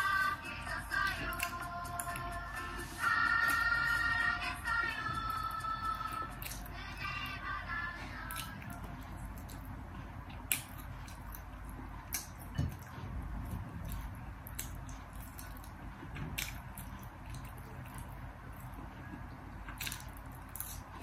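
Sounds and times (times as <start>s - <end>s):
chewing: 0.7s - 21.0s.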